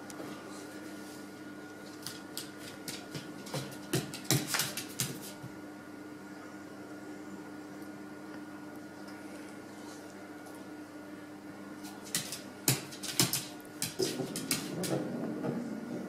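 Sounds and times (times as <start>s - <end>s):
appliance hum: 0.0s - 16.0s.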